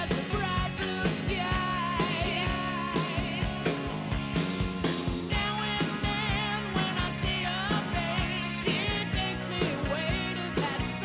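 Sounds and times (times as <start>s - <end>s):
band with bass and drum beat: 0.0s - 11.0s.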